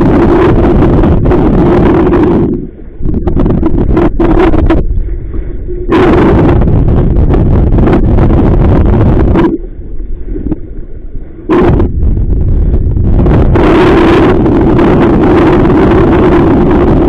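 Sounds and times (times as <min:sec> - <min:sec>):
wind buffeting microphone: 0:00.0 - 0:10.7, 0:11.5 - 0:17.0.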